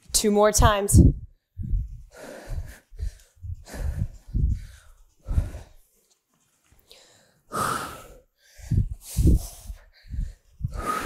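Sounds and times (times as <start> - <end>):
woman breathing hard: 1.2 - 5.9, 6.8 - 11.0.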